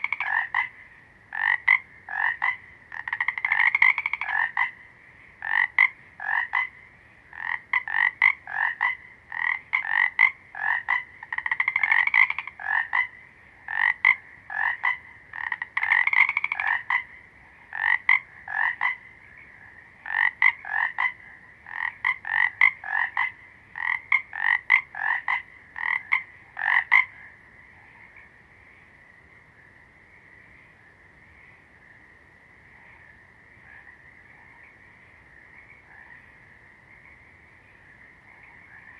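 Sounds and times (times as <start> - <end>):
background frog chorus: 0.0 - 38.9
frogs croaking: 0.0 - 38.9.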